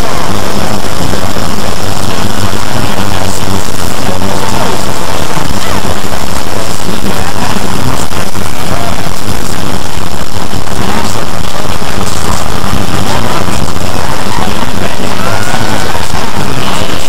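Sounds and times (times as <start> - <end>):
wall of distorted noise: 0.0 - 17.0.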